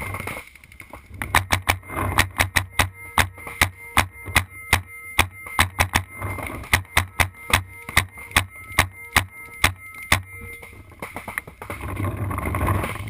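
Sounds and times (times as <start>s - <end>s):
paintball markers firing: 0.0s - 13.0s.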